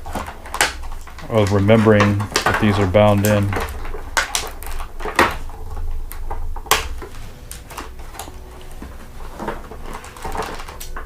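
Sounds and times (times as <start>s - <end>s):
plastic packaging clicking and crinkling: 0.0s - 11.0s.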